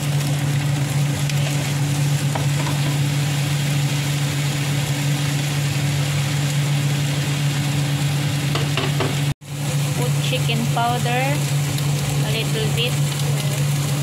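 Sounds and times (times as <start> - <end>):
electric cooktop hum: 0.0 - 14.0
vegetables sizzling in oil: 0.0 - 14.0.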